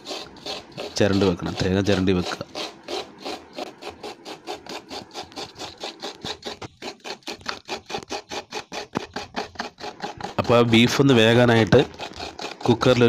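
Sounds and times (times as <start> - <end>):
coconut being grated by hand: 0.0 - 13.0.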